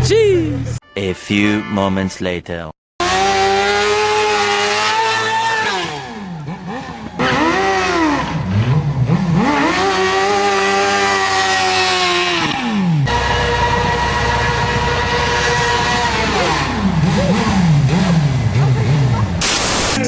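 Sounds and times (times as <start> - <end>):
motorcycle engine revving: 3.0 - 20.0.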